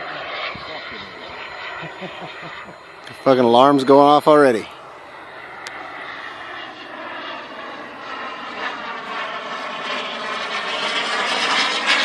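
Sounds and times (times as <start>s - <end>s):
model jet turbine whine: 0.0s - 12.0s.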